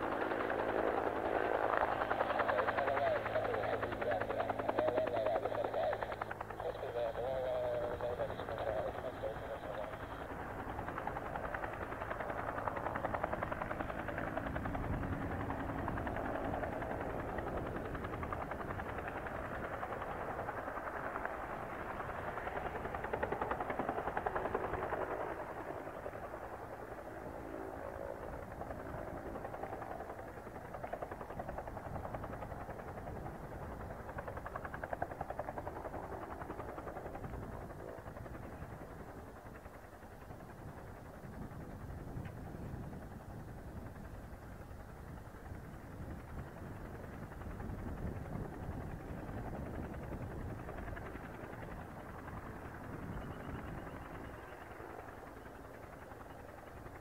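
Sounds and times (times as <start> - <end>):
helicopter rotor chopping: 0.0 - 57.0.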